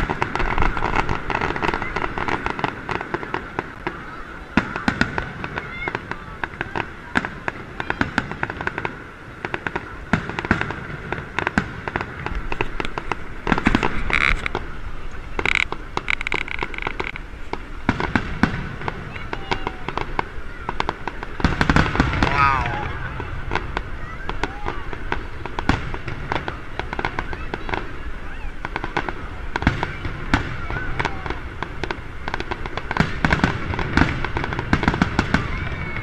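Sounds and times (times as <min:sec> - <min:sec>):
fireworks popping and crackling: 0:00.0 - 0:36.0.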